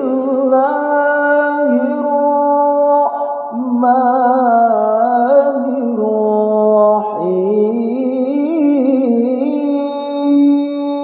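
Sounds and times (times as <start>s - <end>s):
man chanting melodic recitation: 0.0s - 11.0s.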